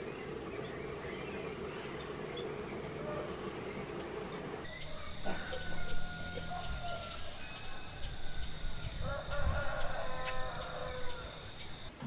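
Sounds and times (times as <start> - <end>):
high-pitched insect whine: 0.0 - 12.0
low buzzing hum: 0.0 - 12.0.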